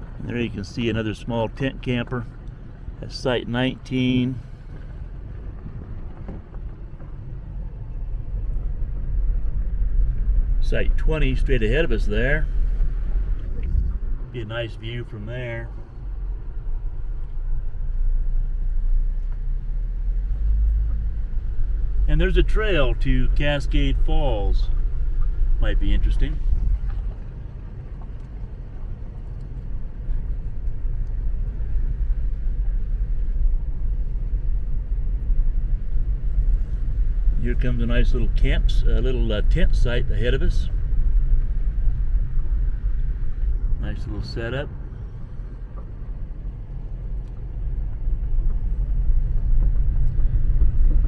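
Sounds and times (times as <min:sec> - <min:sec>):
car driving on gravel: 0:00.0 - 0:51.0.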